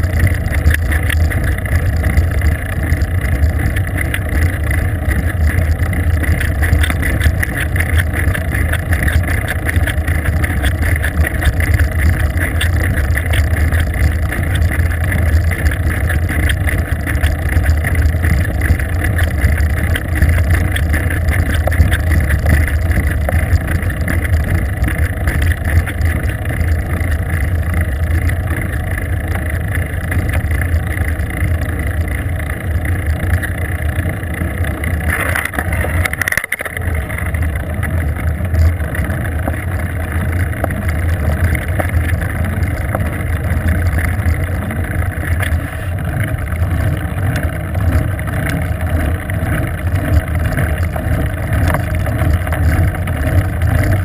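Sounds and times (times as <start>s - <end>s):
bicycle tyres on asphalt: 0.0s - 54.0s
wind over camera: 0.0s - 54.0s.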